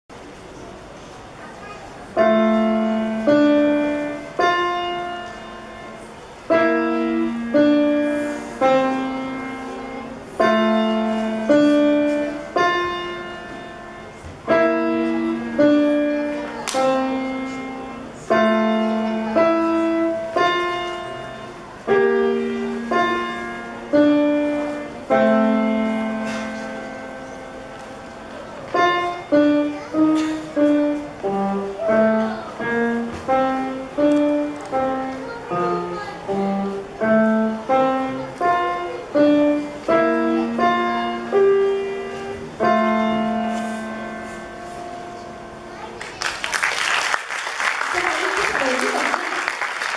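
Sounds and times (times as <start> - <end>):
slow solo piano: 0.4 - 46.5.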